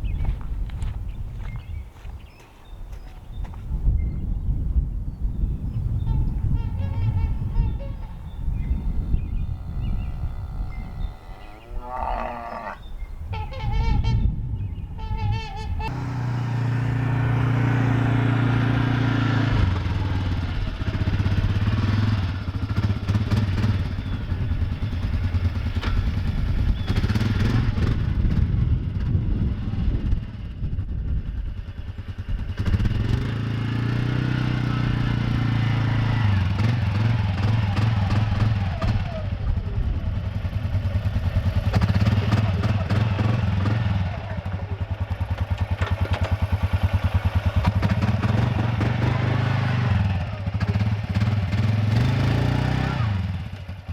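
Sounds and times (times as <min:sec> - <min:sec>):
atv engine revving: 0:06.0 - 0:14.3, 0:15.0 - 0:30.5, 0:31.4 - 0:53.9.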